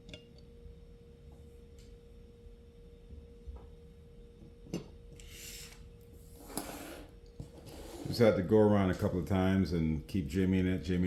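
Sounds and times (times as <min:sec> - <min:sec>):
faint hum tone: 0:00.0 - 0:11.0.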